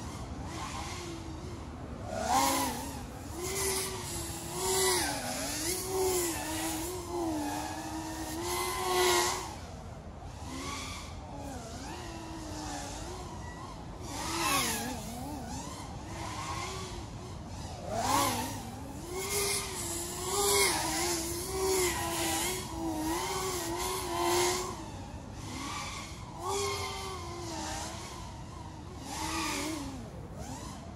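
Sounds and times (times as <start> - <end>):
drone motors whining: 0.0 - 30.9.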